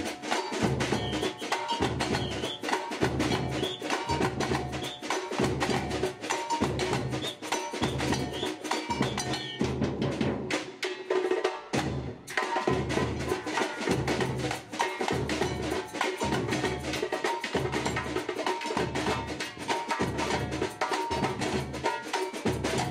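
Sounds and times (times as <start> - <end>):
high hand percussion strikes: 0.0 - 22.9
snare drums: 0.0 - 22.9.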